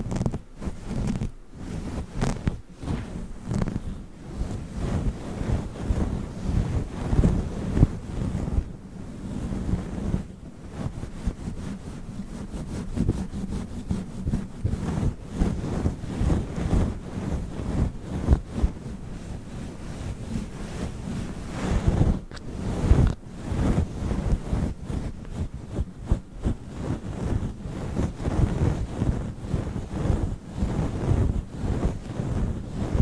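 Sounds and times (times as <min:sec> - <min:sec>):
furry microphone cover rustling: 0:00.0 - 0:33.0.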